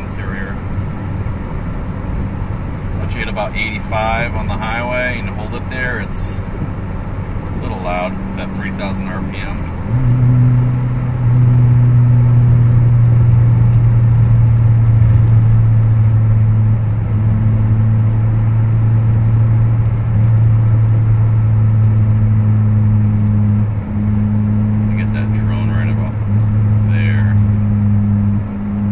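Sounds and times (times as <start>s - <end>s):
car engine droning at cruise: 0.0s - 28.9s.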